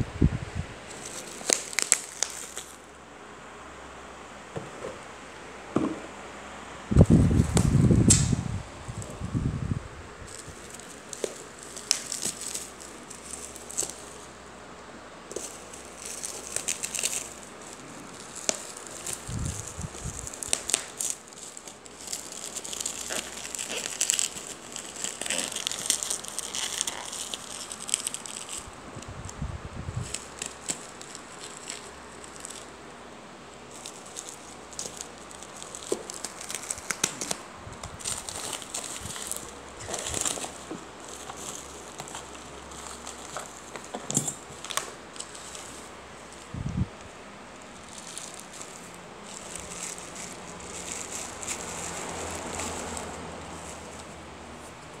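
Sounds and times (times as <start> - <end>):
bubble wrap crinkling: 0.8 - 3.0, 7.0 - 55.0.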